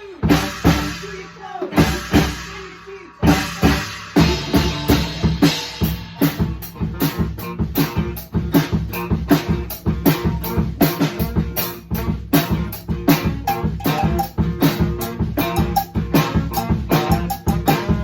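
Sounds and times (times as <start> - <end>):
drum kit beat: 0.0 - 18.0
live band playing: 0.0 - 18.0.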